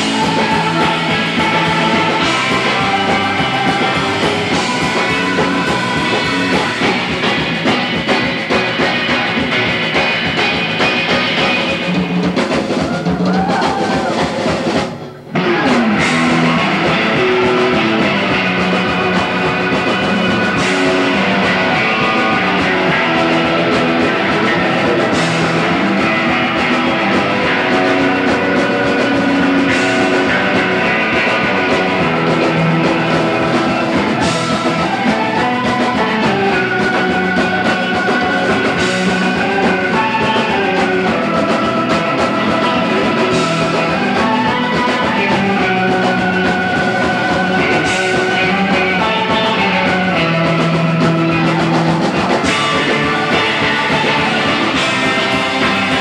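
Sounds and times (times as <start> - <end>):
surf rock band playing: 0.0 - 56.0.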